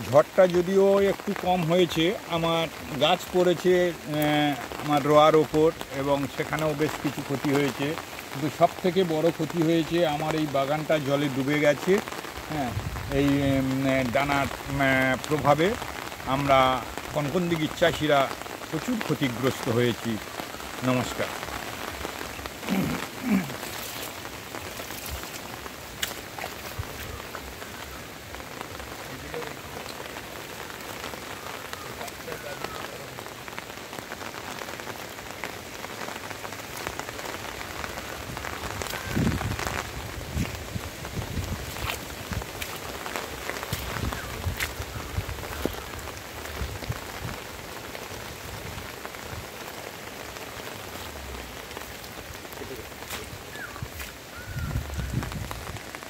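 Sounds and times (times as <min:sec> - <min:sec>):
heavy rain on water: 0:00.0 - 0:56.0.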